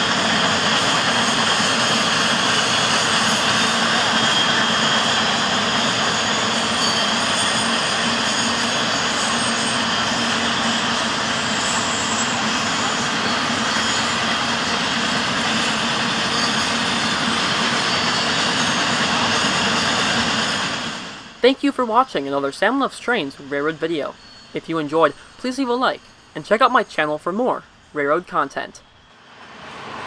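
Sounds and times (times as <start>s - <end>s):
faint steady whine: 0.0s - 30.0s
train wheels roaring on rail: 0.0s - 30.0s.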